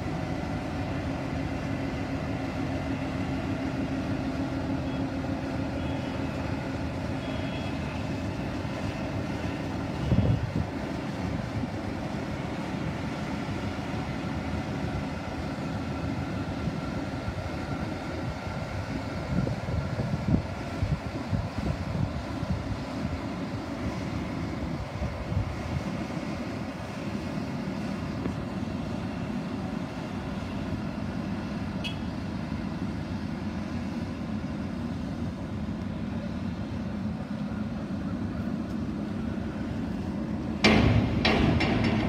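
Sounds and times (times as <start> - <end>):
diesel locomotive engine idling: 0.0 - 42.0.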